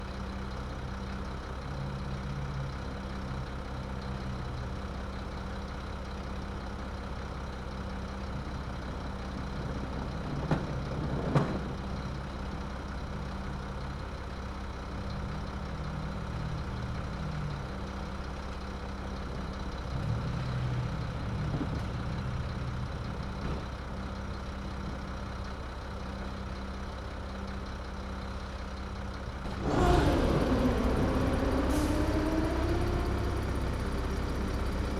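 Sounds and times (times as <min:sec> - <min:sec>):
garbage truck engine idling: 0:00.0 - 0:34.9.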